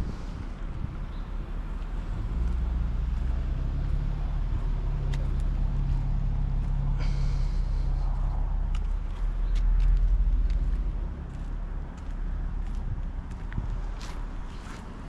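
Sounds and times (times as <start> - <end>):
car engine with road noise: 0.0 - 15.0.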